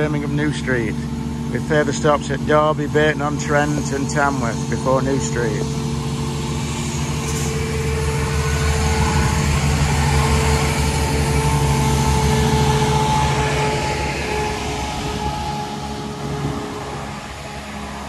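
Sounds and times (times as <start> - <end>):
diesel train engines droning: 0.0 - 18.0.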